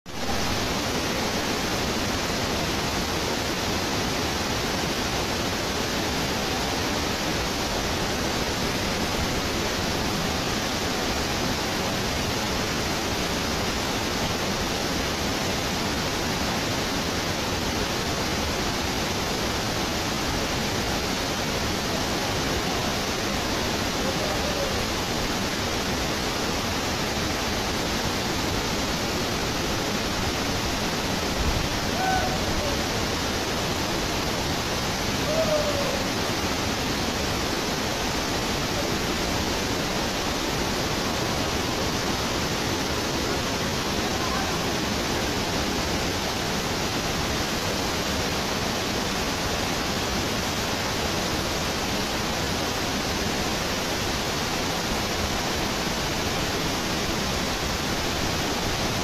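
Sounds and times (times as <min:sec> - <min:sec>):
waterfall rushing: 0:00.1 - 0:59.0.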